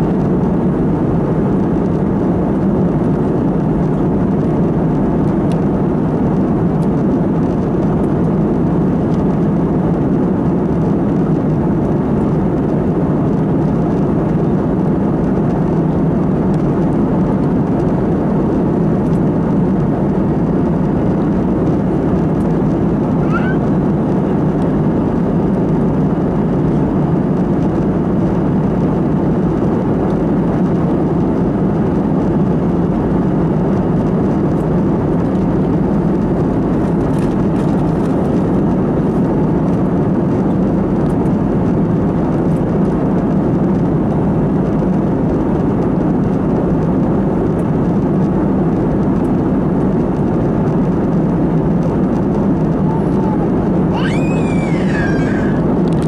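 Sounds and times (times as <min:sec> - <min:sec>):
airplane cabin engine and airflow noise: 0:00.0 - 0:56.0.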